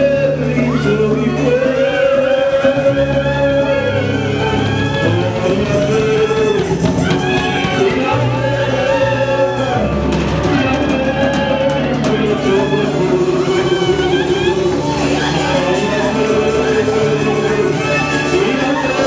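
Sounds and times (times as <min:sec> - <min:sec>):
band playing: 0:00.0 - 0:19.0
man singing: 0:00.0 - 0:19.0.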